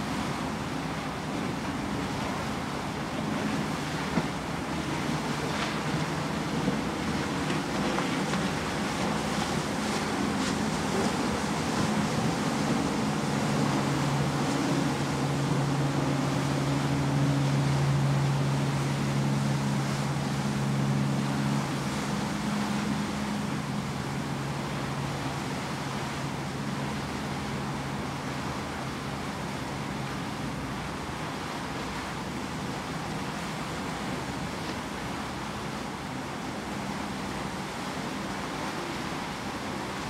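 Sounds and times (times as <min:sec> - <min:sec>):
low engine drone: 0:00.0 - 0:40.0
water rushing past ship: 0:00.0 - 0:40.0.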